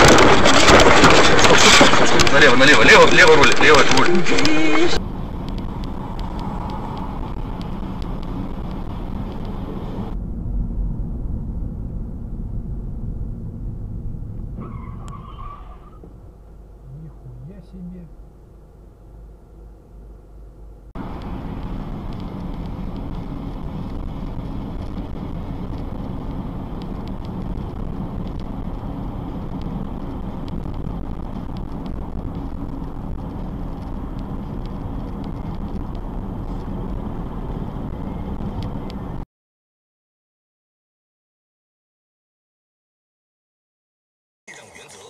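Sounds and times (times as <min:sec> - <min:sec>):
tyres on a wet road: 0:00.0 - 0:19.4, 0:21.0 - 0:39.2, 0:44.5 - 0:45.0
car engine running: 0:00.0 - 0:39.2.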